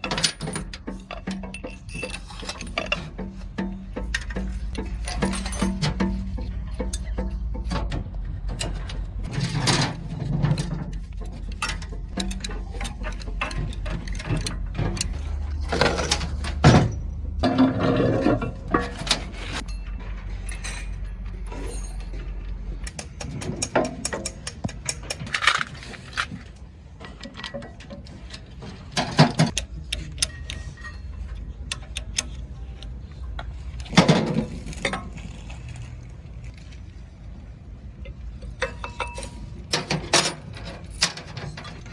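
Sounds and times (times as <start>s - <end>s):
metal tools clinking and clanking: 0.0s - 41.9s.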